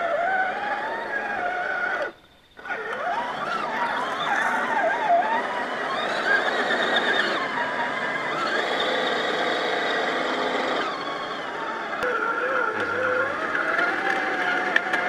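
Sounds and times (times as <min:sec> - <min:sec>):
toy car electric motor whine: 0:00.0 - 0:15.0.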